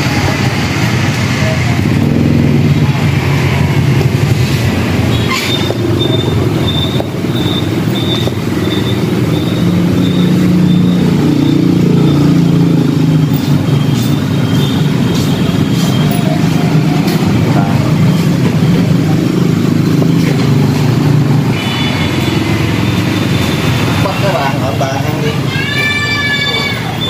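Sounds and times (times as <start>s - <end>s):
motorbike engine running: 0.0s - 25.2s.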